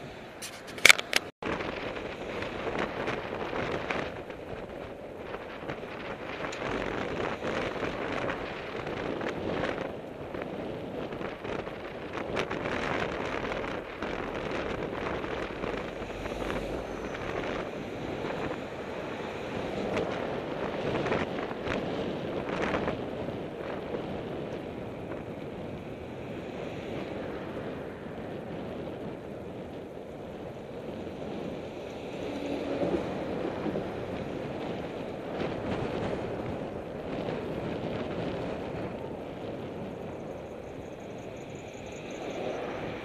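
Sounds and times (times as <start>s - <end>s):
road traffic: 0.0s - 43.0s
wind on microphone: 0.0s - 43.0s.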